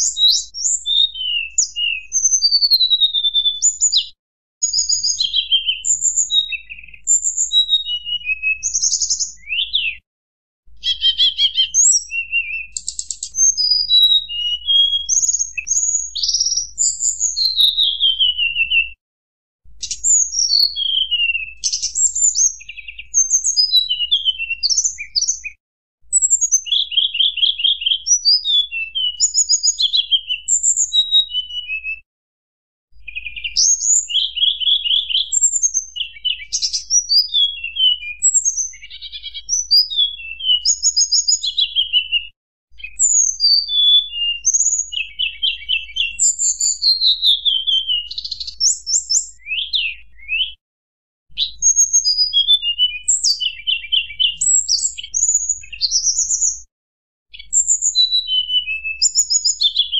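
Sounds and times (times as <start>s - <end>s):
bird singing flute-like whistles: 0.0s - 10.0s, 10.8s - 19.0s, 19.8s - 32.1s, 33.0s - 50.6s, 51.3s - 56.7s, 57.3s - 59.9s.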